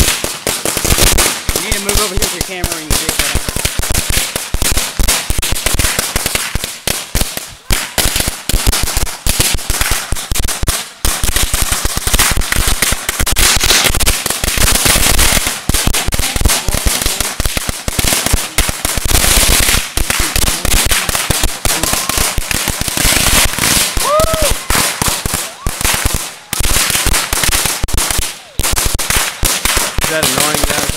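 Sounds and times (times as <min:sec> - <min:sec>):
firecrackers crackling: 0:00.0 - 0:30.9.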